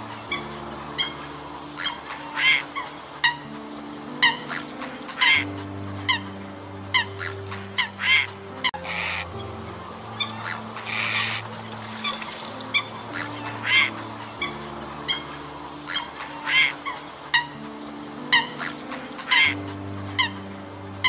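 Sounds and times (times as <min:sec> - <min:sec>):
coots honking calls: 0:00.0 - 0:20.6
music with low chords: 0:00.0 - 0:21.0.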